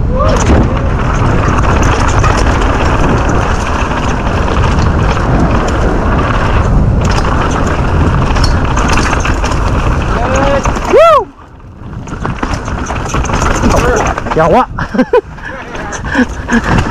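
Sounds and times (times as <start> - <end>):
bike clicks and rattles: 0.0 - 16.9
wind buffeting microphone: 0.0 - 16.9.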